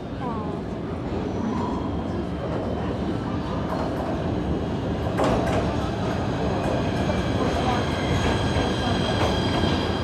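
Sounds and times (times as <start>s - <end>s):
subway train rumbling: 0.0s - 10.0s.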